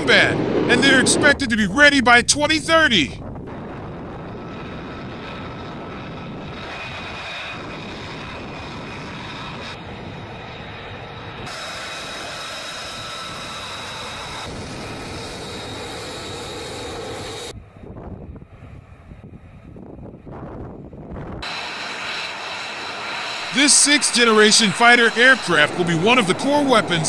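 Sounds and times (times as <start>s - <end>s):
jet engine rushing whine: 0.0s - 27.0s.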